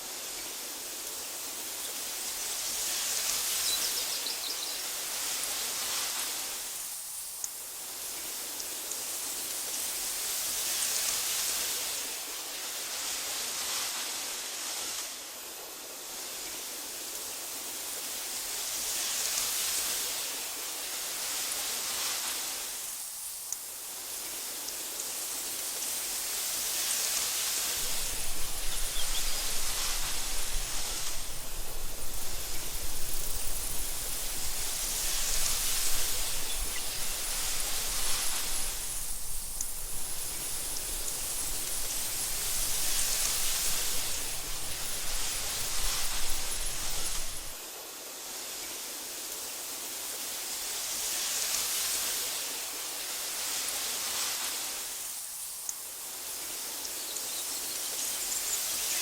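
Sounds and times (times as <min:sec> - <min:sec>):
wind through tall grass: 0:00.0 - 0:59.0.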